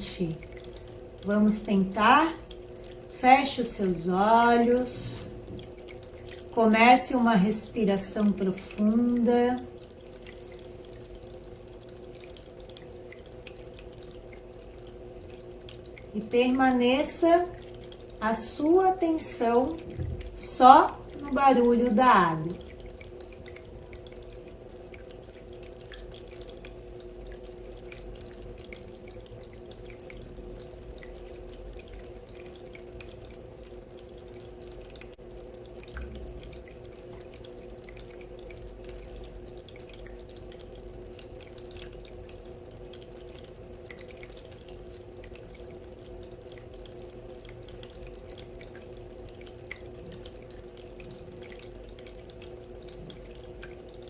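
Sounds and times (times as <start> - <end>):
fountain trickling and dripping: 0.0 - 54.0
steady hum: 0.0 - 54.0.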